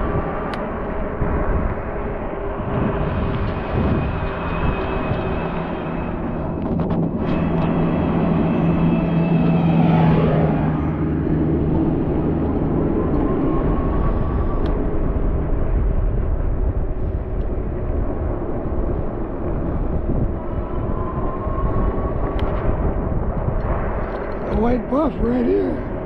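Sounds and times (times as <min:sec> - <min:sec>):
faint rising whine: 0:00.0 - 0:24.4
road noise: 0:00.0 - 0:26.0
wind rumble on microphone: 0:00.0 - 0:26.0.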